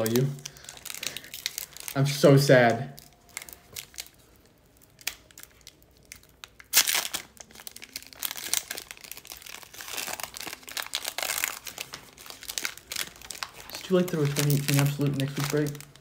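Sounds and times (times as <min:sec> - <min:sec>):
foil wrapper ripping: 0:00.0 - 0:04.2, 0:04.8 - 0:16.0
foil wrapper crinkling: 0:00.0 - 0:16.0.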